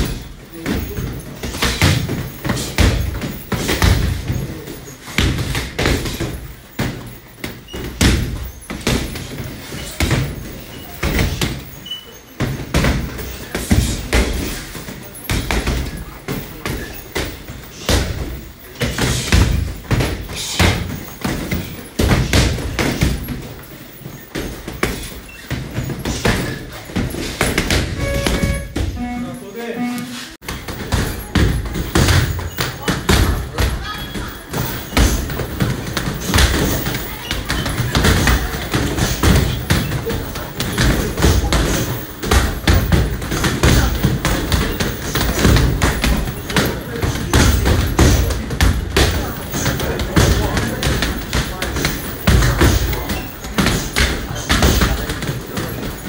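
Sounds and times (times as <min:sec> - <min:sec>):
punches and kicks on heavy bag: 0:00.0 - 0:11.7, 0:12.4 - 0:28.9, 0:30.4 - 0:56.0.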